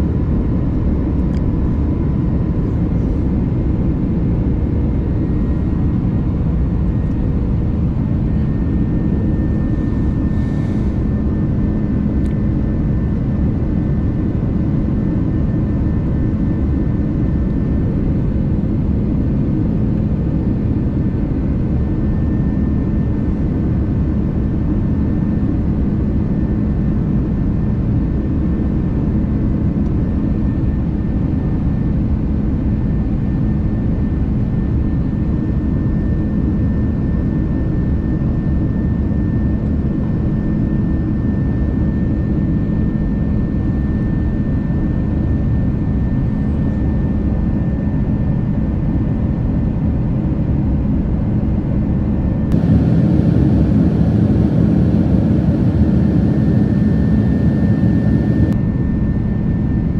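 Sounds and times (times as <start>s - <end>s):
constant hum: 0.0s - 59.9s
jet engines roaring in cabin: 0.0s - 59.9s.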